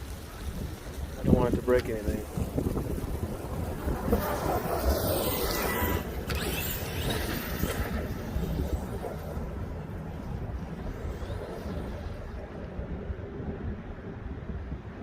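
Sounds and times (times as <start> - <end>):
rc truck running: 0.0 - 13.1
wind rumbling on microphone: 0.0 - 15.0.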